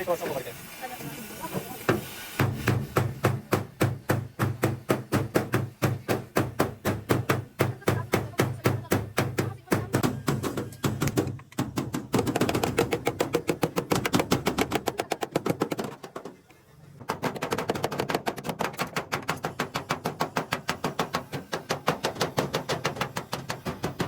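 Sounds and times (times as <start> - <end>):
rapid hammering on metal: 1.9 - 16.2, 17.1 - 24.0.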